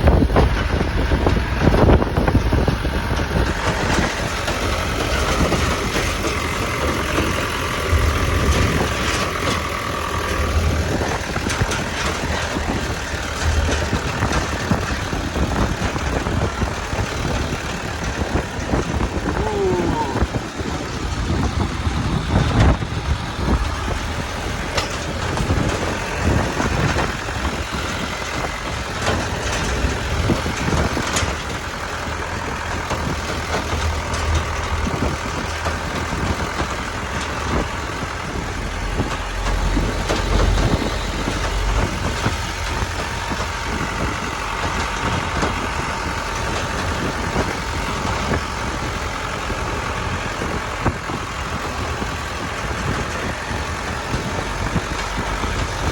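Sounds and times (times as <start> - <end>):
knocks and rattles: 0.0 - 55.9
road noise: 0.0 - 55.9
truck engine rumble: 0.0 - 55.9.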